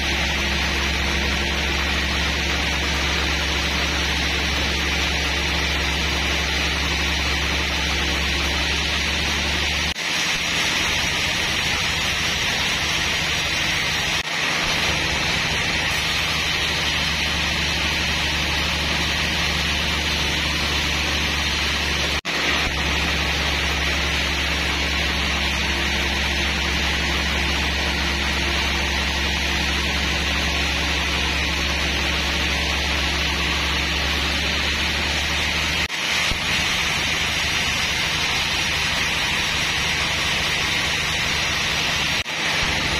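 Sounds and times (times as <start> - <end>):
saw hiss: 0.0 - 42.9
sawmill motor hum: 0.0 - 42.9.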